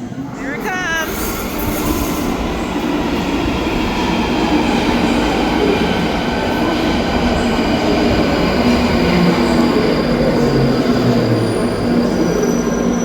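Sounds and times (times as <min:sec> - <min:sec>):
train wheels rumbling on rails: 0:01.0 - 0:13.0.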